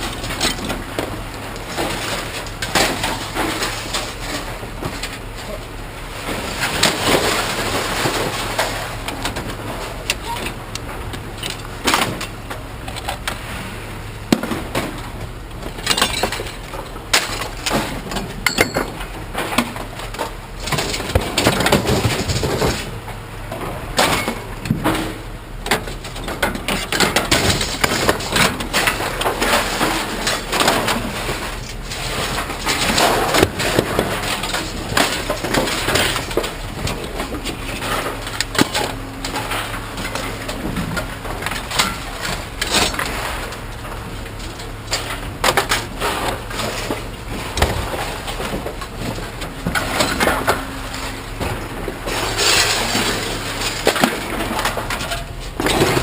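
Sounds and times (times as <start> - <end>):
scrap metal clanking onto pile: 0.0 - 5.6, 6.2 - 10.6, 14.3 - 56.0.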